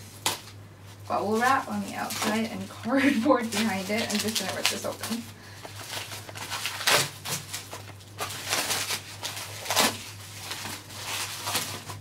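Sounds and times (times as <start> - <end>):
packaging crinkling and rustling: 0.0 - 12.0
packaging ripping: 1.3 - 12.0.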